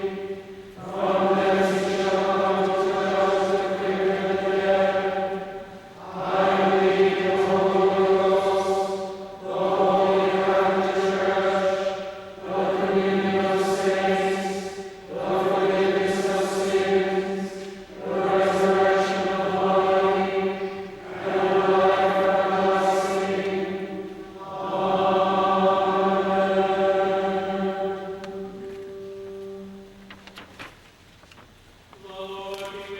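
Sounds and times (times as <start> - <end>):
crowd chanting: 0.0 - 28.6.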